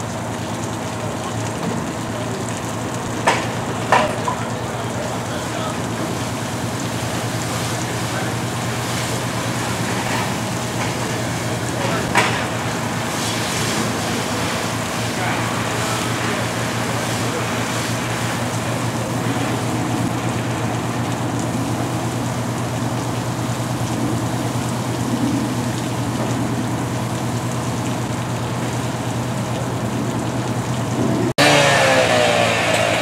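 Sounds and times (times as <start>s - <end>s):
diesel truck engine running: 0.0s - 33.0s
fire hose water rushing: 0.0s - 33.0s.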